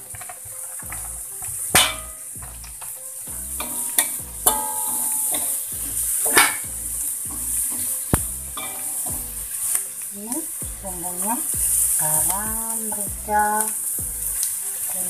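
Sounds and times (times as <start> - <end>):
food sizzling in hot oil: 0.0 - 15.0
spatula scraping a wok: 0.0 - 15.0.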